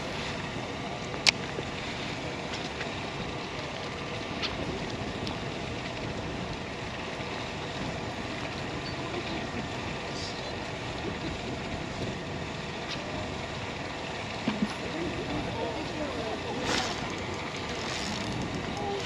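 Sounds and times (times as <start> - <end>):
wind on microphone: 0.0 - 13.6, 14.4 - 19.0.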